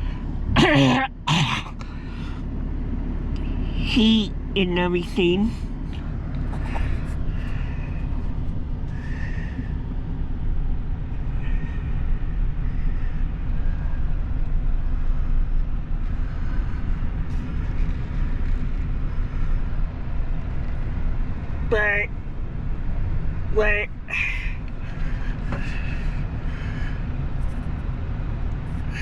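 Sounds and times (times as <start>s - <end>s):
road noise: 0.0s - 29.0s
vehicle engine rumble: 0.0s - 29.0s.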